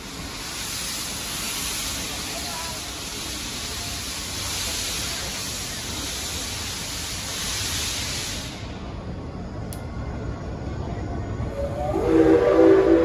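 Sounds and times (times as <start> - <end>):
steam train hissing: 0.0 - 9.4, 11.4 - 13.0
train rumbling: 0.0 - 13.0.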